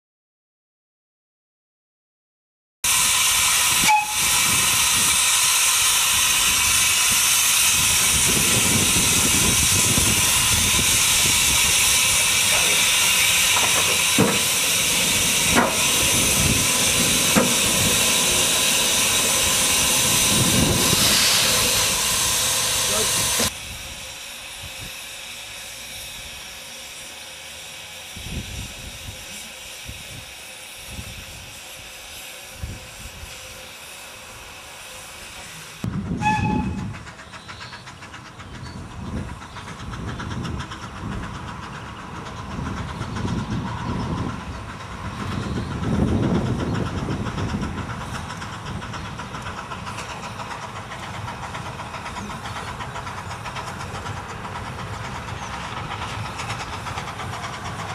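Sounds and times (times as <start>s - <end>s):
steam hissing: 2.9s - 57.9s
steam locomotive chugging: 2.9s - 57.9s.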